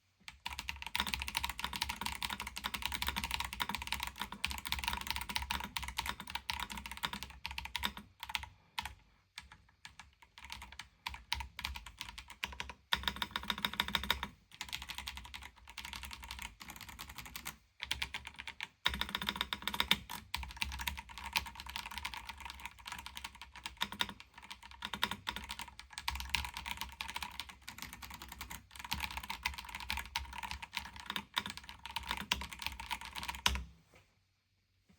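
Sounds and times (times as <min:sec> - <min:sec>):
mechanical keyboard typing: 0:00.3 - 0:33.6.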